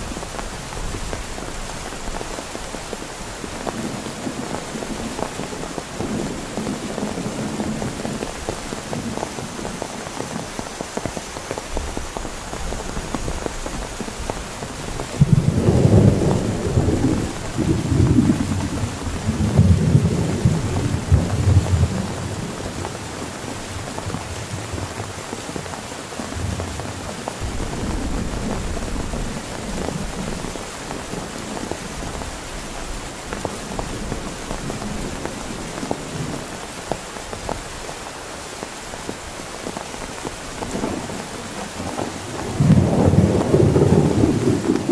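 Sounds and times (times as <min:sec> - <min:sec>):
thunder rumbling: 0:00.0 - 0:10.6, 0:11.8 - 0:25.2, 0:26.3 - 0:36.7, 0:40.2 - 0:44.9
heavy rain: 0:00.0 - 0:44.9.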